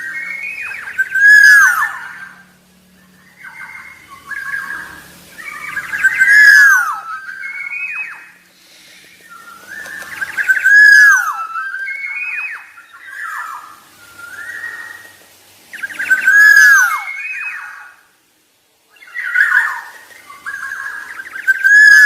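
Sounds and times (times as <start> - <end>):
bird singing fluty whistles: 0.0 - 18.0, 18.9 - 22.0.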